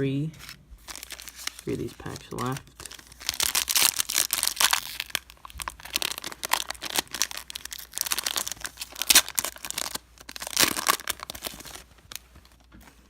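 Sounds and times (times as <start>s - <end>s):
plastic wrapper crinkling and tearing: 0.4s - 12.8s.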